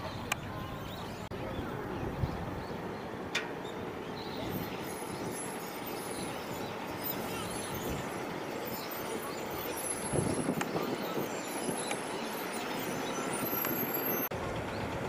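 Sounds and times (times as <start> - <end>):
faint distant voices: 0.0 - 14.8
outdoor background noise: 0.0 - 15.0.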